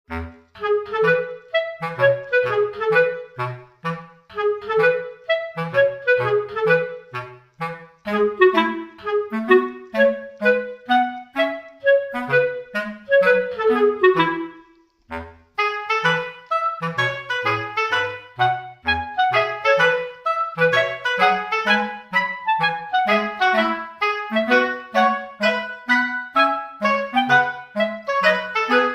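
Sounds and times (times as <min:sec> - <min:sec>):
upbeat instrumental music: 0:00.1 - 0:28.9.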